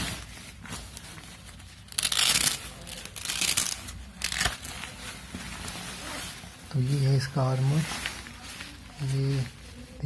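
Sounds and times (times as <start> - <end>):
jacket fabric rustling: 0.0 - 10.0.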